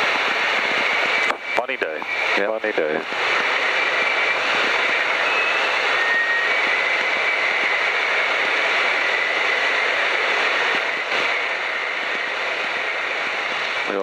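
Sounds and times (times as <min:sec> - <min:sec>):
aircraft engine drone: 0:00.0 - 0:14.0
airflow noise: 0:00.0 - 0:14.0
faint high whine: 0:00.0 - 0:14.0.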